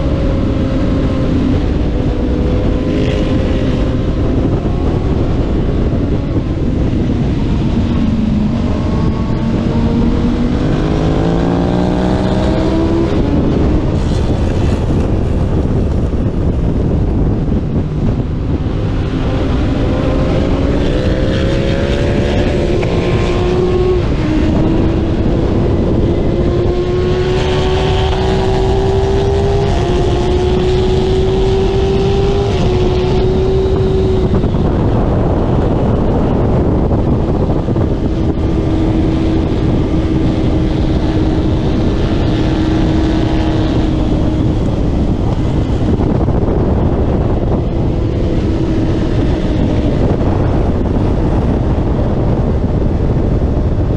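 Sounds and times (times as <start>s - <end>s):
heavy wind noise: 0.0s - 53.9s
racing motorcycle engine: 0.0s - 53.9s.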